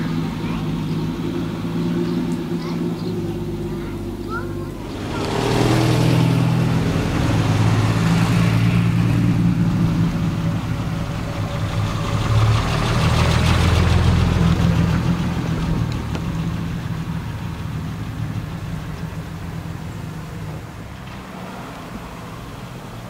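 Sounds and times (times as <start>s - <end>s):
low exhaust note: 0.0s - 20.9s
cars driving past: 0.0s - 23.0s.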